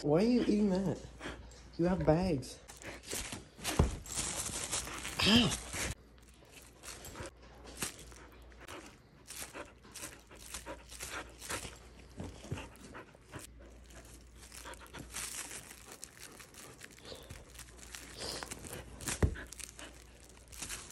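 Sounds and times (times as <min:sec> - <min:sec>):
plastic bag crinkling: 0:02.7 - 0:12.5, 0:13.3 - 0:20.9.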